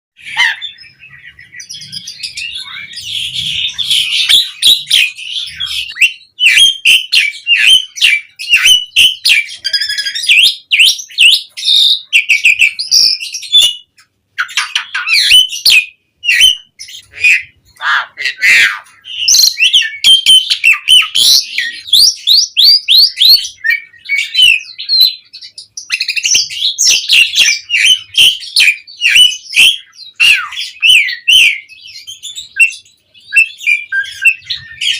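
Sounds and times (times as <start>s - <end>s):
starling singing: 0.2s - 34.9s.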